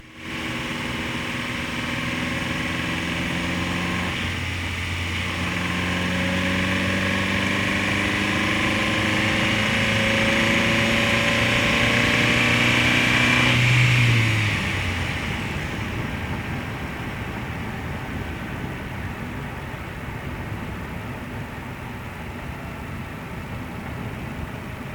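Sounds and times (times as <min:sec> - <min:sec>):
car engine running: 0:00.0 - 0:24.9.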